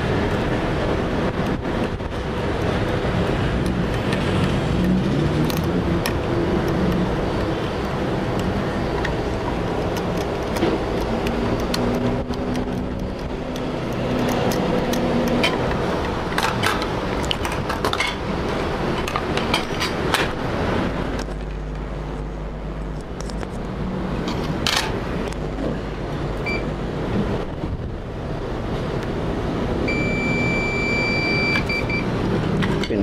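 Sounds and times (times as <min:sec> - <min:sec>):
steady background noise: 0:00.0 - 0:33.0.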